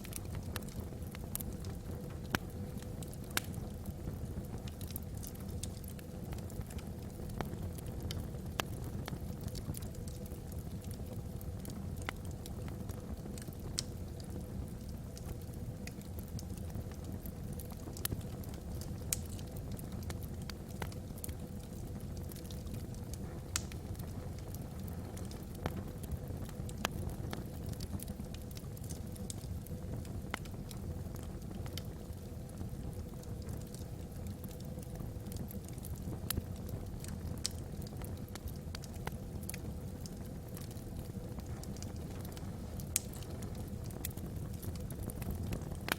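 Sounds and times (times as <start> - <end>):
fireplace flames rumbling: 0.0 - 45.9
logs popping and crackling: 0.0 - 45.9.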